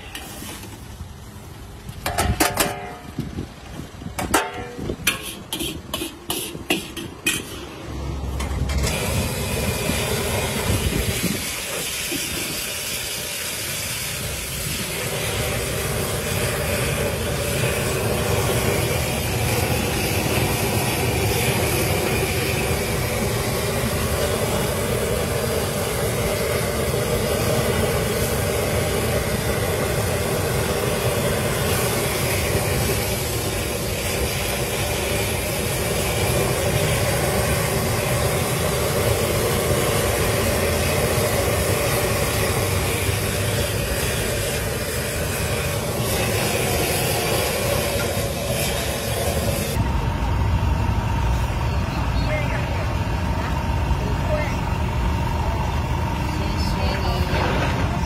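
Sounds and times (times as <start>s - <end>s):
oil sizzling in wok: 0.0s - 51.6s.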